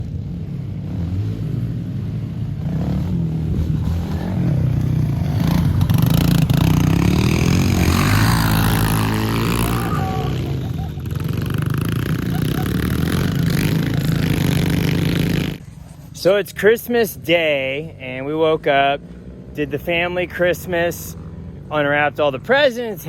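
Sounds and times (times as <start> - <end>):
small motorbike engines revving: 0.0 - 23.0.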